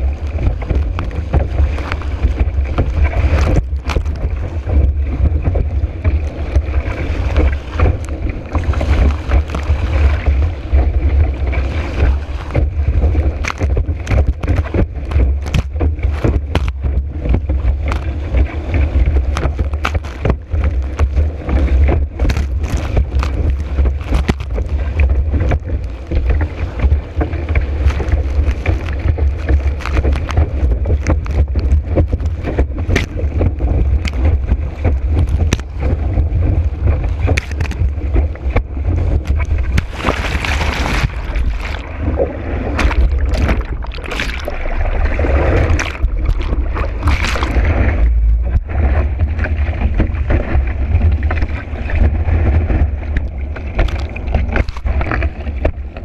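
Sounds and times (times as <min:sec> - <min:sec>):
board slapping on water: 0:00.0 - 0:56.0
wind rumble on microphone: 0:00.0 - 0:56.0.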